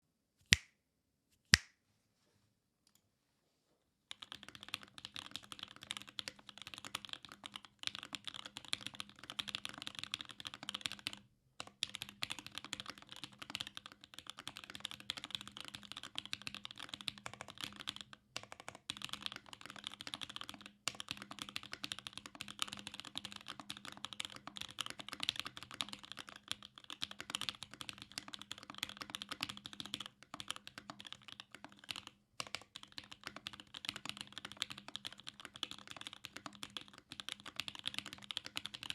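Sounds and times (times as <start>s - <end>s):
mechanical keyboard typing: 4.1s - 38.9s.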